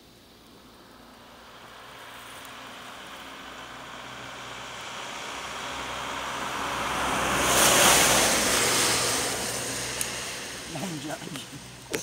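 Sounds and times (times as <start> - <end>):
wind rushing through trees: 0.0 - 12.0.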